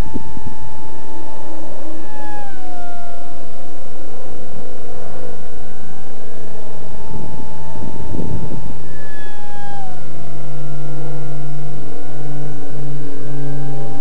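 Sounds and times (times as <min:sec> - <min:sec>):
motor and propeller whine: 0:00.0 - 0:14.0.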